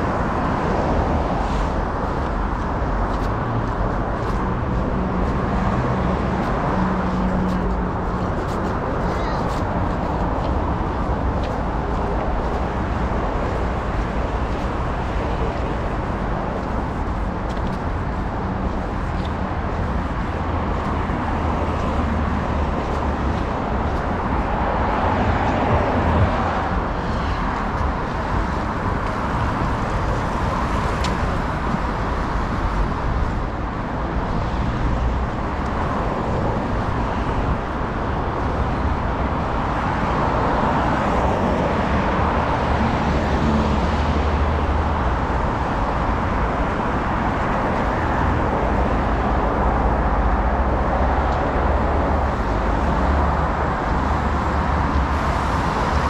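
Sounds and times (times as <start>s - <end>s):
busy traffic passing: 0.0s - 56.0s.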